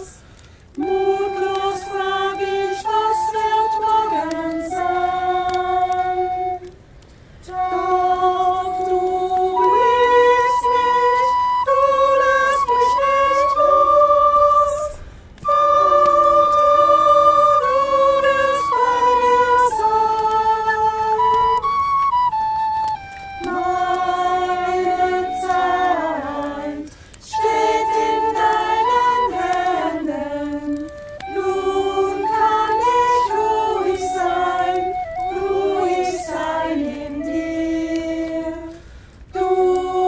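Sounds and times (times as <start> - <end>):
voices singing long notes: 0.0 - 40.0.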